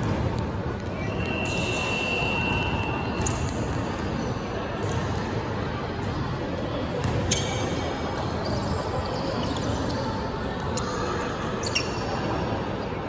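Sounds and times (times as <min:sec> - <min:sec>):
faint voices: 0:00.0 - 0:13.0
gymnasium hubbub: 0:00.0 - 0:13.0.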